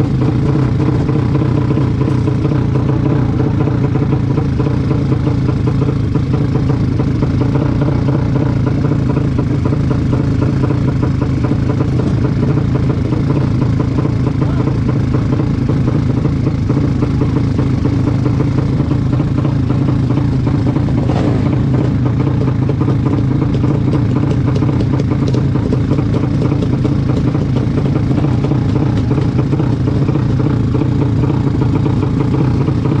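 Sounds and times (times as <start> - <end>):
motorcycle engine droning: 0.0 - 33.0
light ticking clatter: 3.9 - 33.0.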